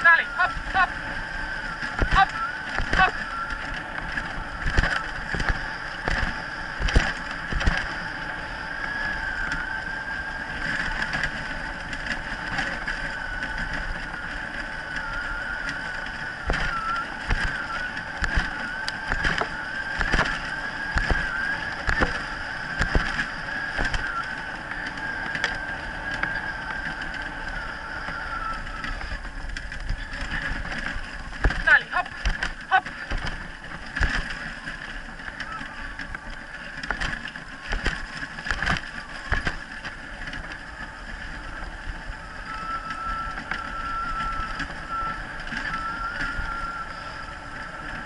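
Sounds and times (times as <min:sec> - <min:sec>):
high whine: 0:00.0 - 0:48.0
sled rig rattling on dirt: 0:00.0 - 0:48.0.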